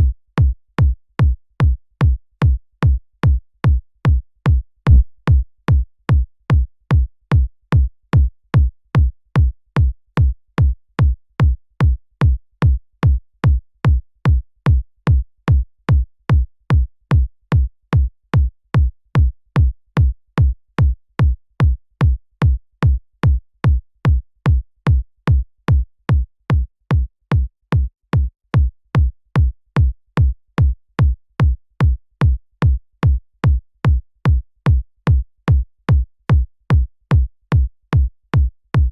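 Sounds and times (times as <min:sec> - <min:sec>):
electronic kick drum: 0:00.0 - 0:38.9.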